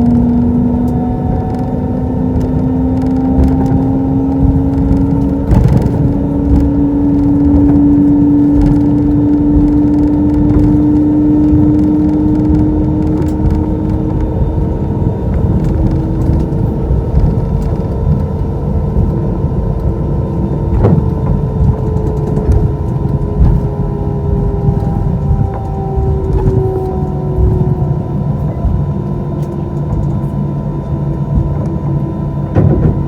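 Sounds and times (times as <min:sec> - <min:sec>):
aircraft engines humming at idle: 0:00.0 - 0:33.0
low rumble of ground roll: 0:00.0 - 0:33.0.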